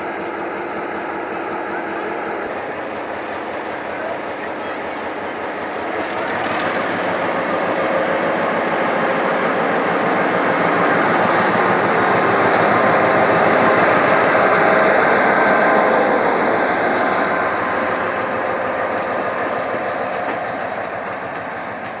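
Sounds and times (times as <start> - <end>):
locomotive engine and rolling: 0.0 - 22.0.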